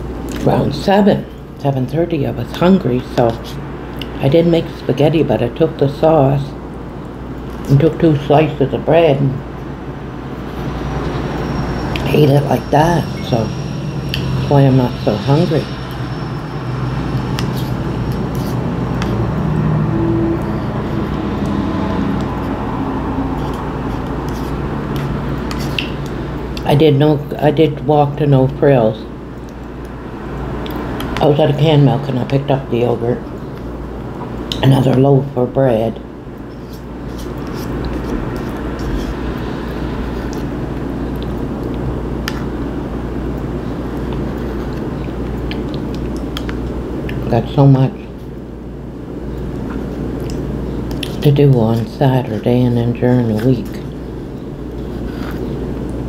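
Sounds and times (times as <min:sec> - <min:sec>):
low mechanical rumble: 0:00.0 - 0:56.0.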